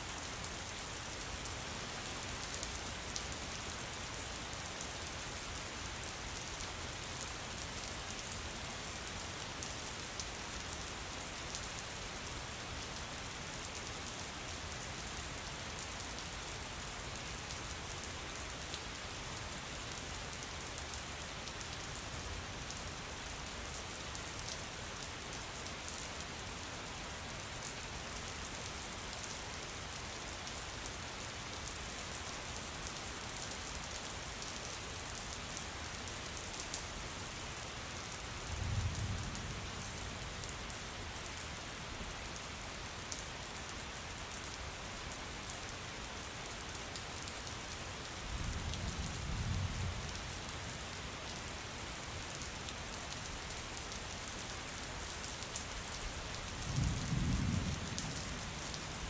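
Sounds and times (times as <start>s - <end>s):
rain patter: 0.0s - 59.0s.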